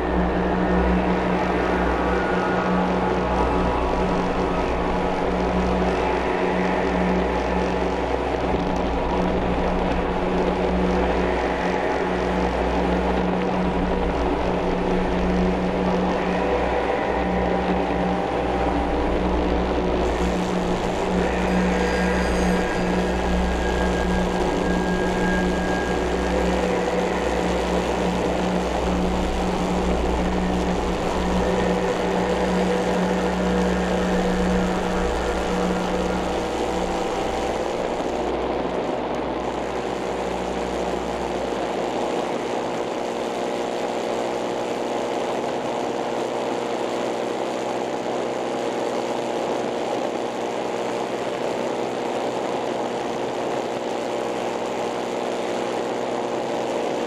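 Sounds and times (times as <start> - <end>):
engine and propeller running: 0.0 - 57.0.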